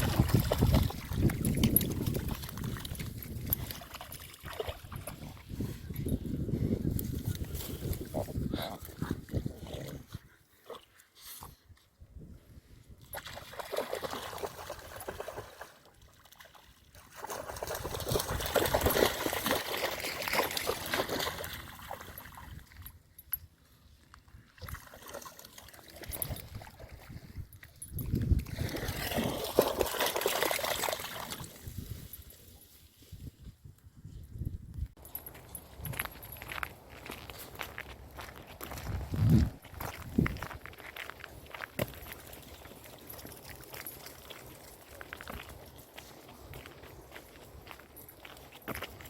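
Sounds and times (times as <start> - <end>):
water splashing and trickling: 0.0 - 8.1, 12.9 - 23.3, 23.9 - 33.0, 35.0 - 49.0.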